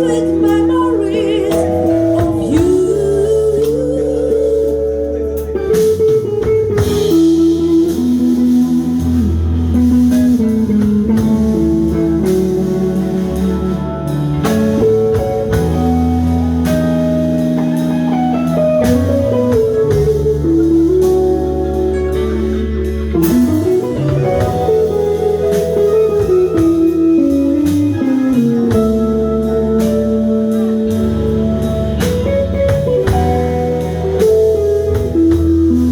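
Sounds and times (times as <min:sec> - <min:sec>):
bass guitar: 0:00.0 - 0:35.9
drum kit: 0:00.0 - 0:35.9
guitar melody: 0:00.0 - 0:35.9.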